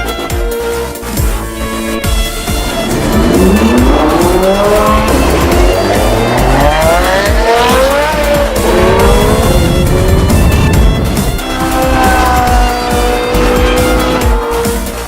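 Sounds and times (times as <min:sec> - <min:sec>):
music: 0:00.0 - 0:15.0
car engines revving: 0:01.0 - 0:15.0.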